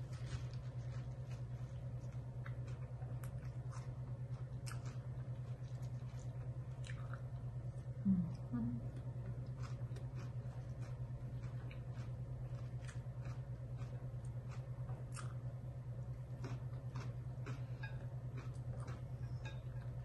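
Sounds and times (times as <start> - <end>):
chewing crunchy salad: 0.0 - 20.0
low pulsing hum: 0.0 - 20.0.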